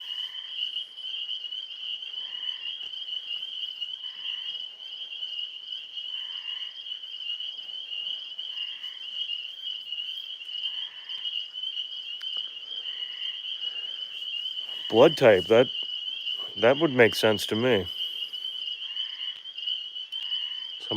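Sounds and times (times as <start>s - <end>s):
frogs trilling chorus: 0.0s - 20.9s
low frog call: 0.0s - 20.9s.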